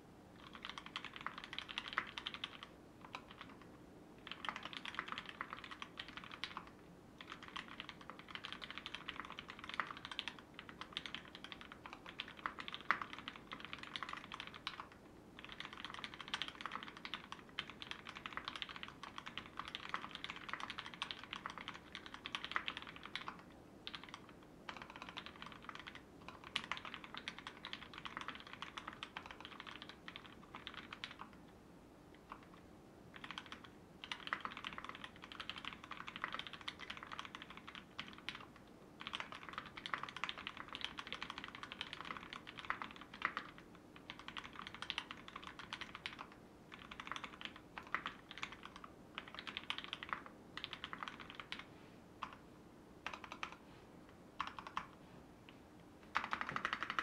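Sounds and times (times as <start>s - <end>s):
mechanical keyboard typing: 0.4s - 31.4s, 32.1s - 52.4s, 53.0s - 53.6s, 54.4s - 55.0s, 56.1s - 57.0s.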